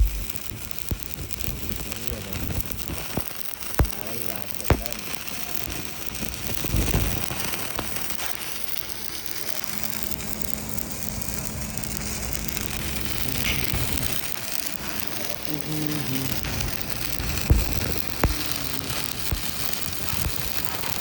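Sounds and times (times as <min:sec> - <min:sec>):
welding arc hissing: 0:00.0 - 0:21.0.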